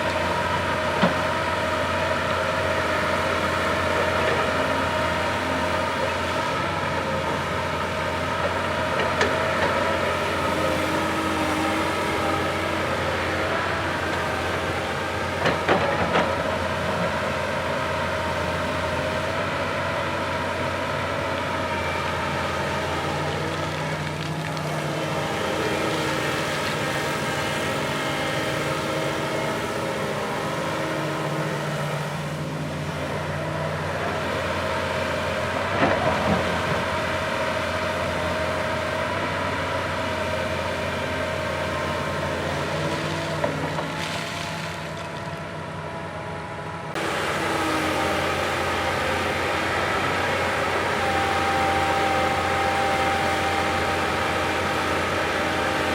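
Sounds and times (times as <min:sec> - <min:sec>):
heavy machine diesel engine: 0:00.0 - 0:55.9.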